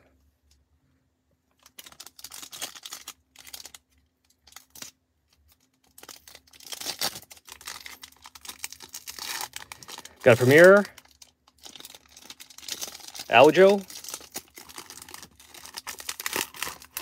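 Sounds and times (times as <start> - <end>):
foil packs crinkling: 1.5 - 17.0.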